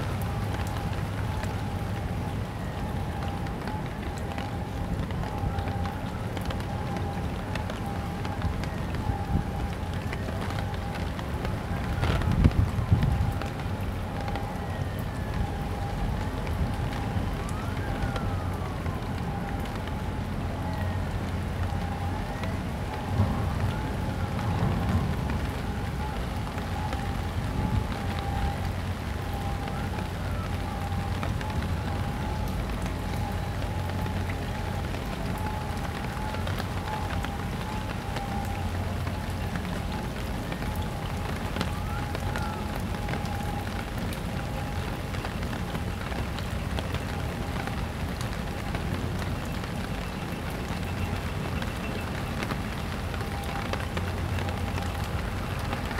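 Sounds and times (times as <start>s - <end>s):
rain on wet pavement: 0.0s - 55.9s.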